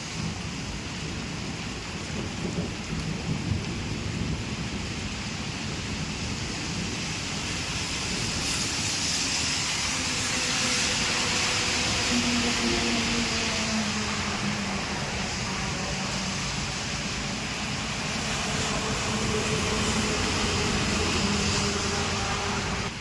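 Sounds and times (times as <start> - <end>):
rain hiss: 0.0 - 23.0.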